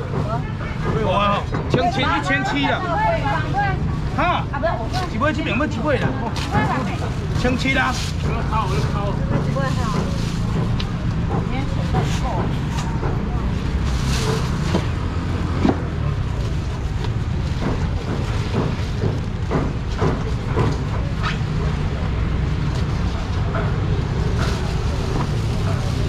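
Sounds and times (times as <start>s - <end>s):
knocks and clatter: 0.0s - 2.4s, 5.4s - 26.0s
faint background voices: 0.0s - 26.0s.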